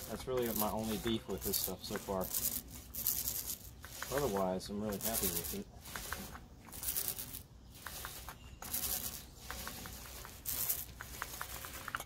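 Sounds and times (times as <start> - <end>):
roller rasping through wet coating: 0.0 - 12.0.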